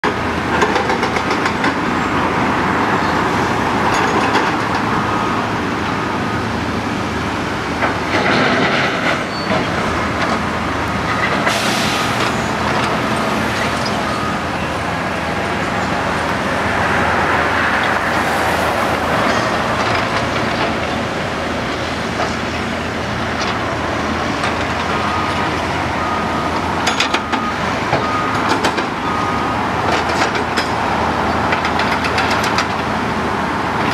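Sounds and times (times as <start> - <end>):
construction machinery: 0.0 - 33.9
traffic: 0.0 - 33.9.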